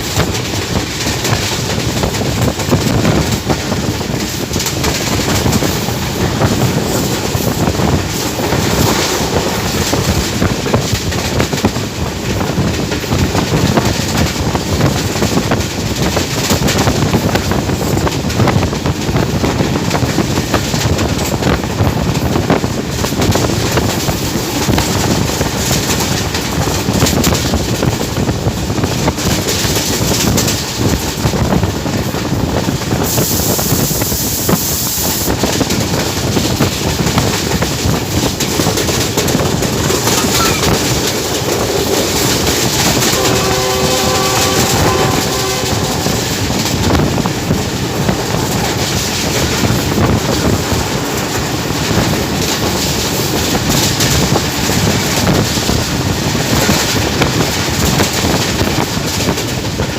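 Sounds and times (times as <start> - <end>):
train rushing rumble: 0.0 - 59.9
wind buffeting microphone: 0.0 - 59.9.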